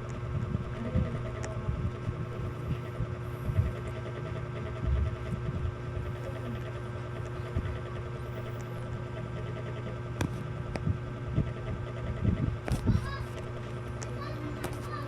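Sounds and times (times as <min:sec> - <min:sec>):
ceiling fans humming: 0:00.0 - 0:15.0.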